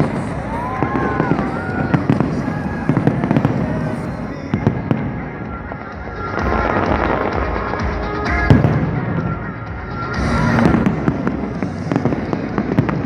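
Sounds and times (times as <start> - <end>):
fireworks exploding: 0.0 - 13.0
music playing: 0.0 - 13.0.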